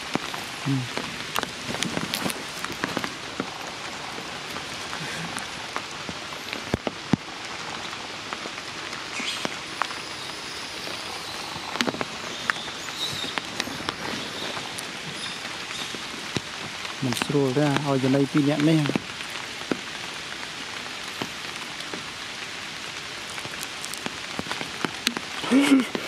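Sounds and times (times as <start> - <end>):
raindrops clicking close by: 0.0 - 26.0
steady rain falling: 0.0 - 26.0.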